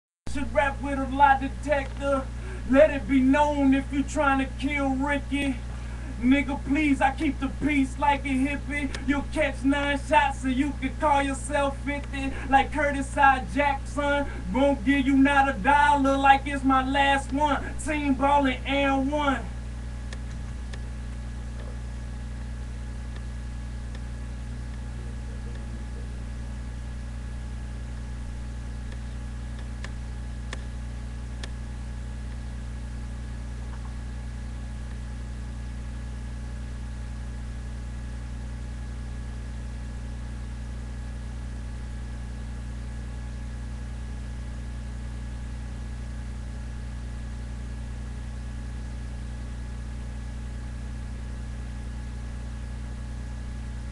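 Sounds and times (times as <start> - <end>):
low background hum: 0.3 - 53.9.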